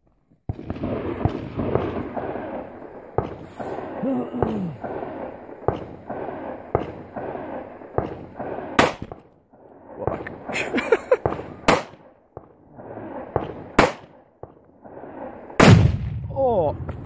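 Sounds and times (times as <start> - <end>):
sharp gunshots: 0.5 - 9.3, 10.0 - 17.0.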